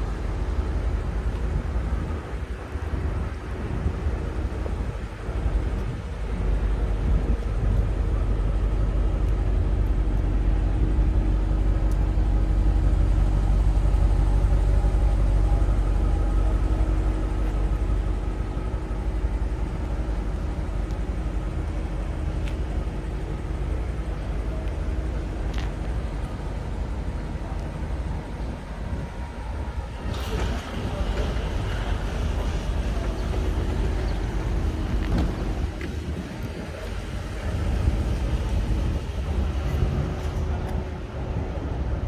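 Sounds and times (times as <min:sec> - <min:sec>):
low exhaust rumble: 0:00.0 - 0:42.0.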